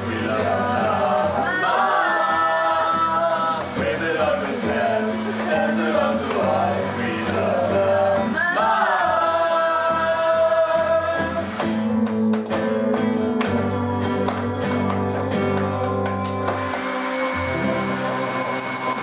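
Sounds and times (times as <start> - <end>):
group of people singing: 0.0 - 19.0
strummed acoustic guitar: 0.0 - 19.0.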